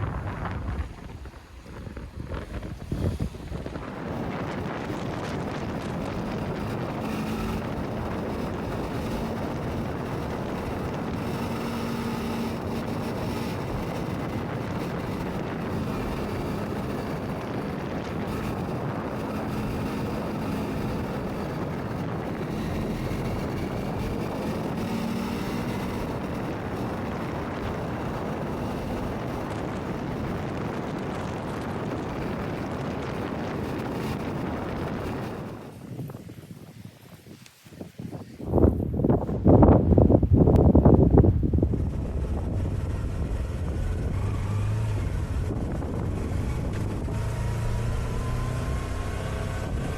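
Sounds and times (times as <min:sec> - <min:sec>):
motorcycle engine hum: 0:00.0 - 0:49.9
wind rush over microphone: 0:00.0 - 0:49.9.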